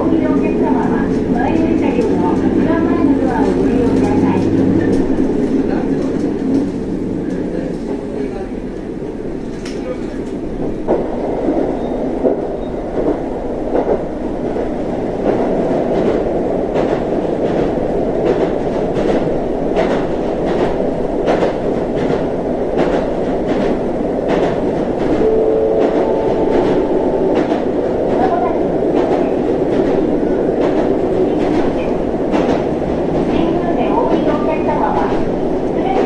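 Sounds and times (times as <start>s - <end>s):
train running from inside: 0.0s - 36.0s.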